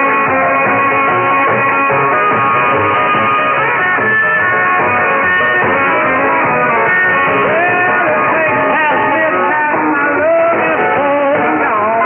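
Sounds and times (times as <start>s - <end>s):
rock music over am radio: 0.0s - 12.0s.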